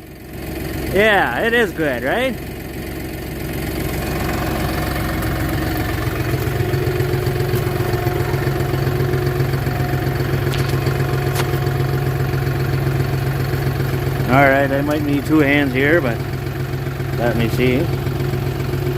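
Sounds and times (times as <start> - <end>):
tractor engine running: 0.0 - 18.9
deep low drone: 1.6 - 18.9.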